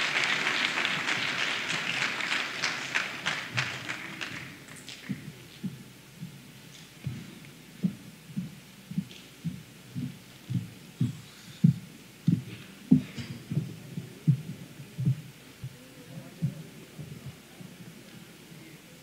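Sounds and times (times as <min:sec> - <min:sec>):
footsteps on stage floor: 0:00.0 - 0:18.3.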